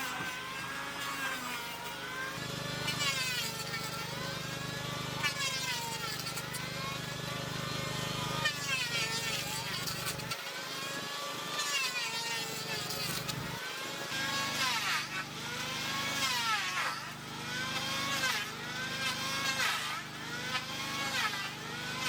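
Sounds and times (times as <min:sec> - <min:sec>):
small engine revving: 0:00.0 - 0:22.0.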